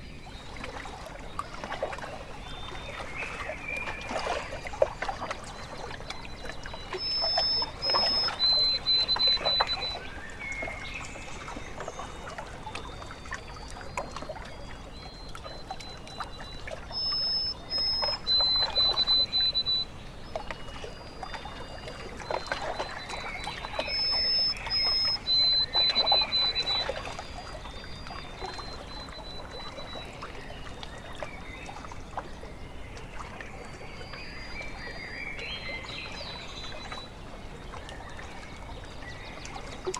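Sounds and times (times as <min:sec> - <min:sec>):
birds calling: 0:00.0 - 0:39.9
waves lapping at lake shore: 0:00.0 - 0:39.9.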